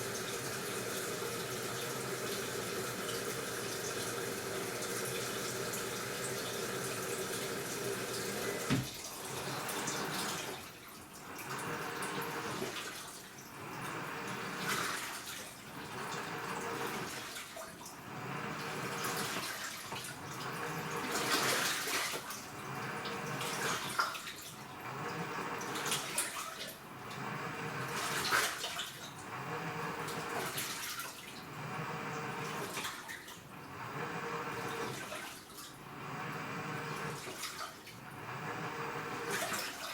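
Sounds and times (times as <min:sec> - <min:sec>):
washing machine swishing laundry: 0:00.0 - 0:27.1, 0:27.8 - 0:31.5, 0:32.1 - 0:39.9.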